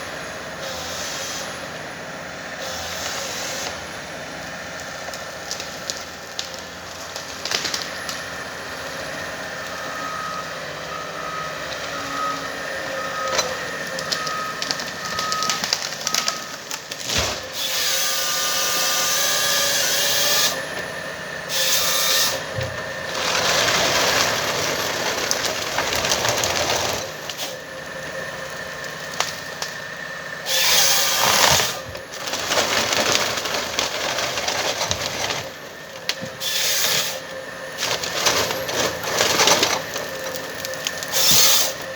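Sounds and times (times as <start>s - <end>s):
forestry harvester running: 0.0s - 41.9s
wood crackling and rasping: 0.4s - 41.9s.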